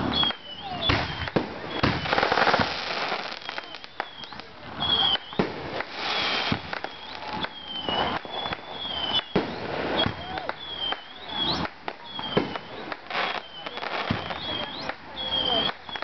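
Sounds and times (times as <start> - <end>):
fireworks popping and banging: 0.0 - 16.0
rockets whistling: 0.0 - 16.0.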